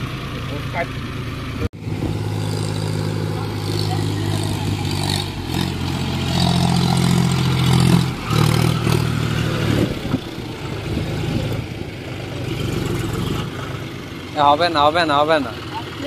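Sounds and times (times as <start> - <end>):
tractor diesel engine revving: 0.0 - 16.0.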